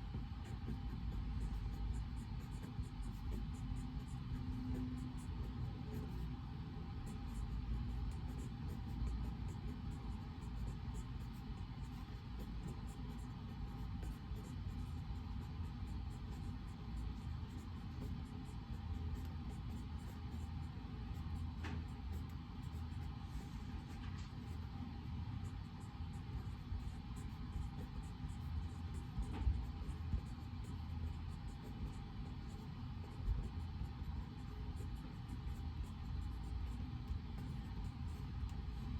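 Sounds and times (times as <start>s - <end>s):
room background rumble: 0.0s - 38.9s.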